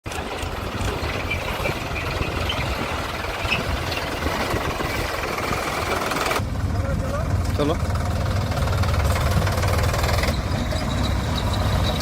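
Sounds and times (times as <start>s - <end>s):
heavy diesel engine idling: 0.1s - 12.0s.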